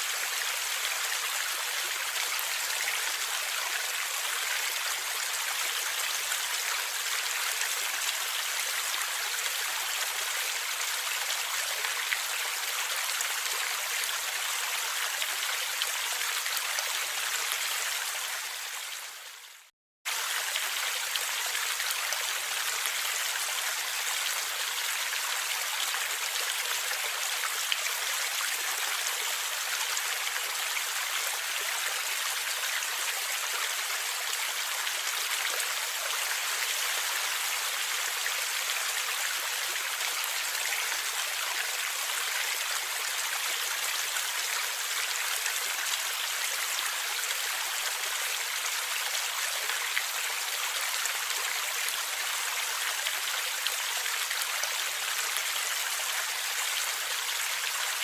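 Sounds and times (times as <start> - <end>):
stream water gurgling: 0.0 - 58.0.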